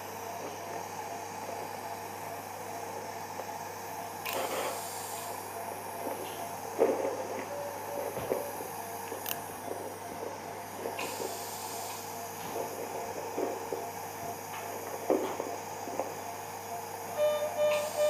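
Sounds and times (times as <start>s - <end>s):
equipment hum and hiss: 0.0s - 18.0s.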